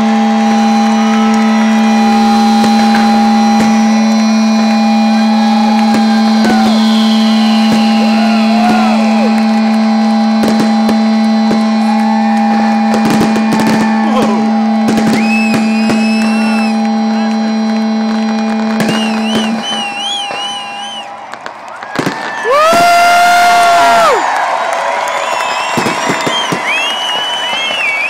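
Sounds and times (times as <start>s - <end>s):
loud steady hum: 0.0s - 24.4s
firework bangs and crackles: 0.0s - 28.0s
firework whistles: 0.0s - 28.0s.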